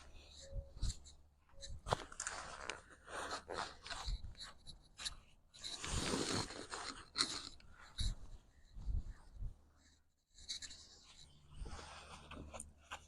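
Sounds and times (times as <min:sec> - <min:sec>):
fabric rustling and scraping: 0:00.8 - 0:09.6, 0:10.4 - 0:13.0.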